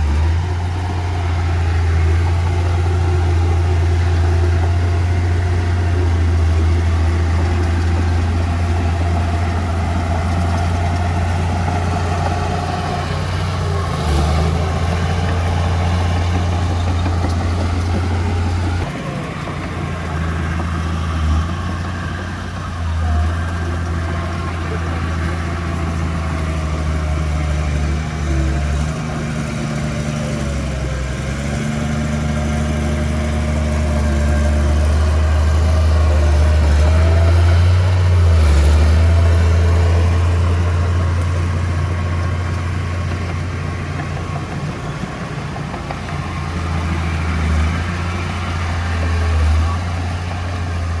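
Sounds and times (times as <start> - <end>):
diesel machine engine humming: 0.0 - 51.0.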